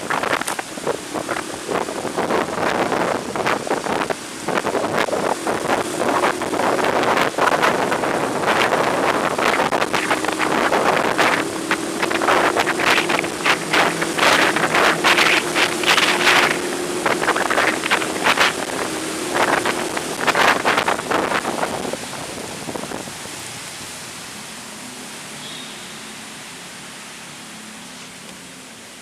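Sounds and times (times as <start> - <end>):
wind buffeting microphone: 0.0 - 24.0
steady rain-like hiss: 0.0 - 29.0.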